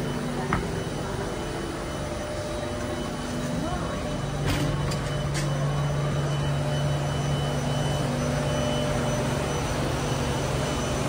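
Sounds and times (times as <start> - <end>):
high-pitched whines: 0.0 - 11.0
low hum of train equipment: 0.0 - 11.0.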